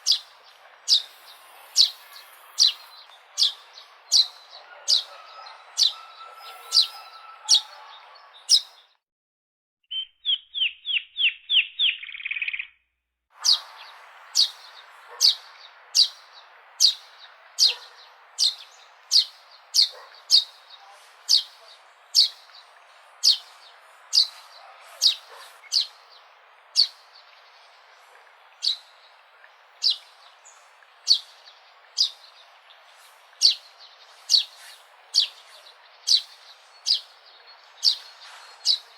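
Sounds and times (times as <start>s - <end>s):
sparrow chirping: 0.0s - 8.8s, 9.9s - 12.8s, 13.4s - 38.9s.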